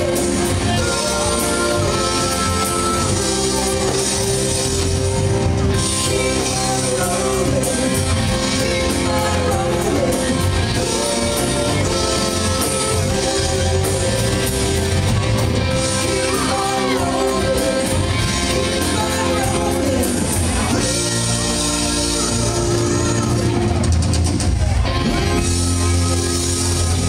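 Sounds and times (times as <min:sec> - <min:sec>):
man singing: 0:00.0 - 0:23.8
rock band playing: 0:00.0 - 0:27.0.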